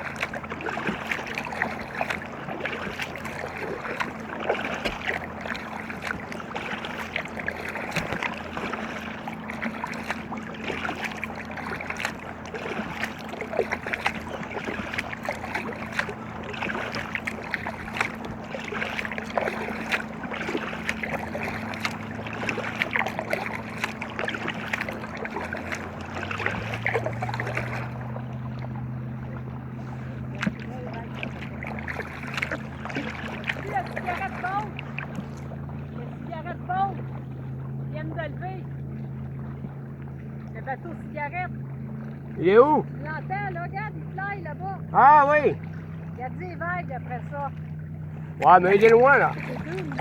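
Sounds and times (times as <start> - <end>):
water splashing against kayak: 0.0 - 50.0.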